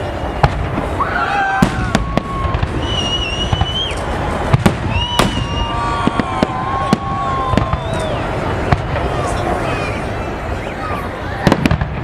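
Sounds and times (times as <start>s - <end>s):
fireworks rumble of bursts: 0.0s - 12.0s
high whistling fireworks: 0.0s - 12.0s
sharp fireworks bangs: 0.0s - 12.0s.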